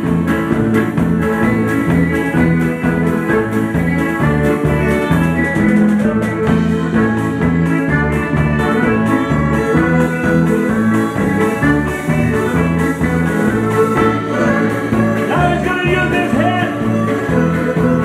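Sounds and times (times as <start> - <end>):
fiddles playing lively tune: 0.0 - 18.0
guitar: 0.0 - 18.0
upright bass line: 0.0 - 18.0.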